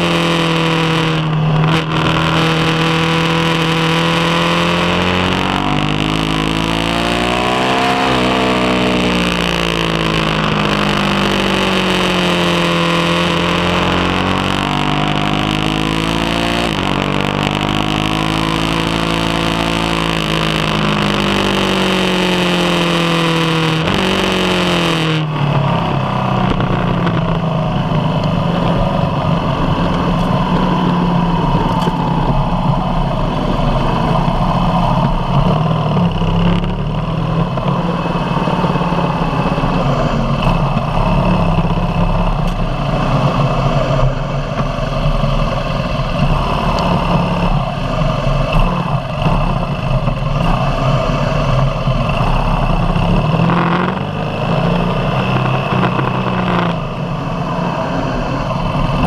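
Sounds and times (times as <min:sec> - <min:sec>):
motorcycle engine at low revs: 0:00.0 - 0:59.0.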